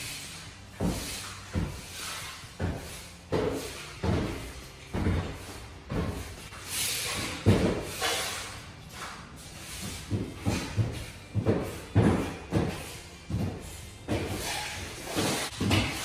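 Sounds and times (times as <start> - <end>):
floor scraper scraping rasp: 0.0 - 16.0.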